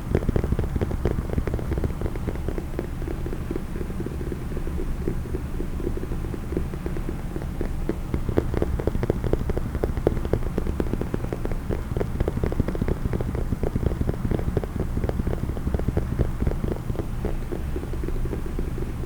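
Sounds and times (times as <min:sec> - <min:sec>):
rapid tapping on a case: 0:00.0 - 0:19.0.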